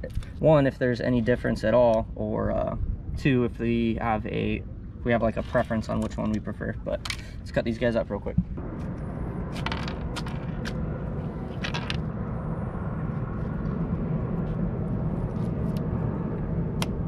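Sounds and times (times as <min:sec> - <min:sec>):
low rumble: 0:00.0 - 0:07.4, 0:08.1 - 0:17.0.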